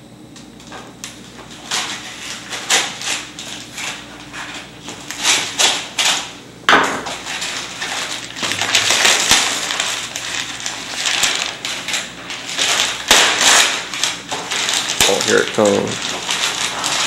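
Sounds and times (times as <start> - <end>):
paper and cardboard tearing: 1.5 - 17.0.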